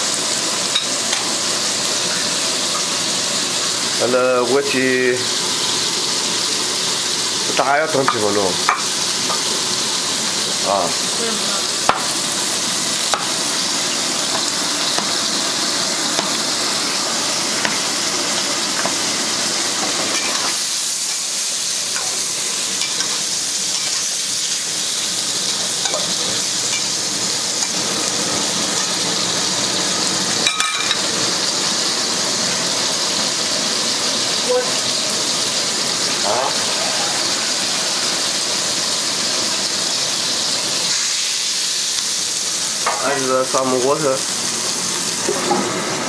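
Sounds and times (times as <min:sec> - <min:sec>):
pork sizzling in oil: 0:00.0 - 0:46.0.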